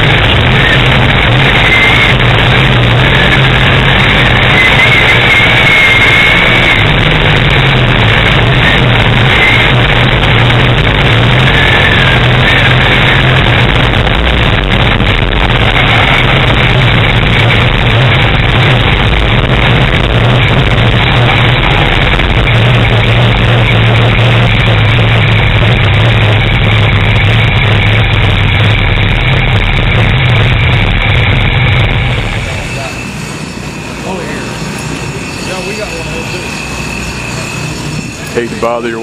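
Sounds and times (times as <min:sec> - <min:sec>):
race car engine running: 0:00.0 - 0:39.0.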